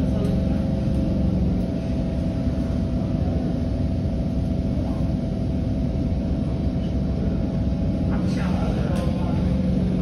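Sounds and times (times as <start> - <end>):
faint steady hum: 0.0 - 10.0
train wheels and motors rumbling: 0.0 - 10.0.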